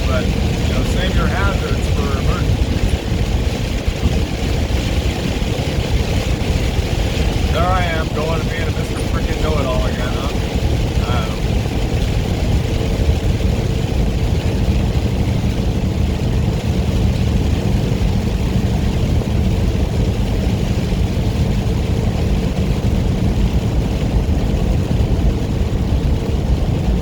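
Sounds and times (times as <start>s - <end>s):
diesel engine drone: 0.0s - 27.0s
tyre noise on wet road: 0.0s - 27.0s.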